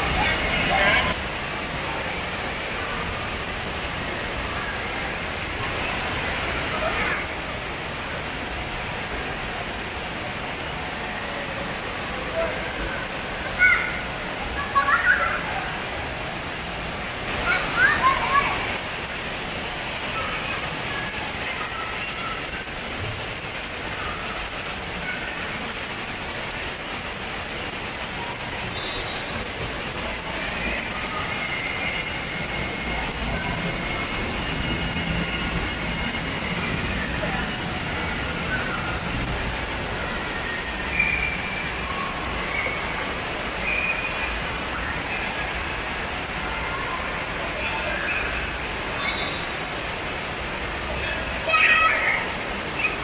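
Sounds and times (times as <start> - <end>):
water running and splashing: 0.0 - 53.0.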